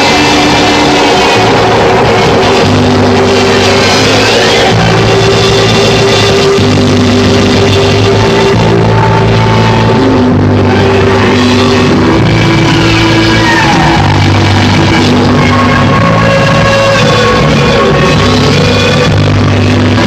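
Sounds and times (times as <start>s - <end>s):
distorted rock band music: 0.0s - 20.0s
guitar pitch slide: 0.0s - 20.0s.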